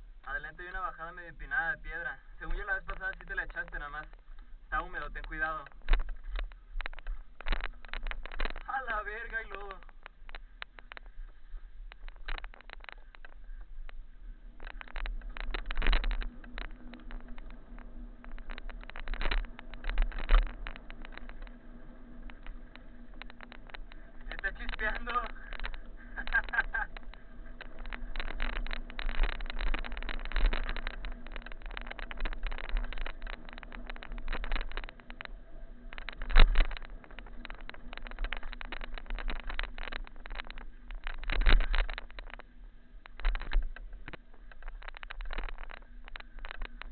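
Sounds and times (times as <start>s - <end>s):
bike rattling on rough trail: 0.0s - 46.9s
wind on camera: 0.0s - 46.9s.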